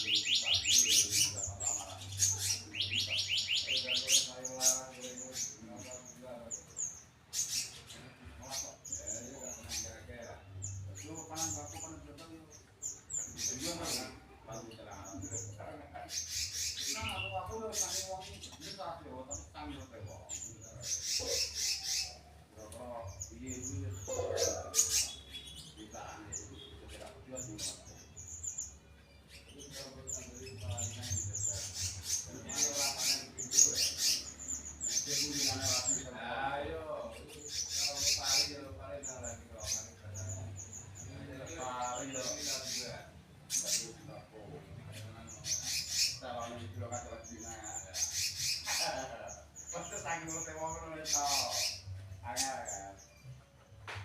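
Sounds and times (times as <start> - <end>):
songbird trilling chirps: 0.0 - 54.0.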